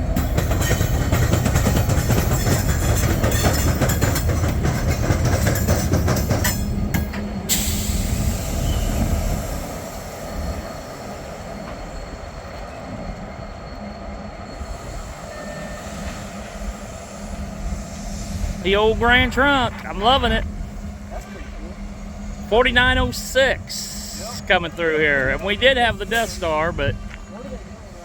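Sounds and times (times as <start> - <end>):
freight train rumbling: 0.0 - 28.0
wheels clacking on rail: 0.0 - 28.0.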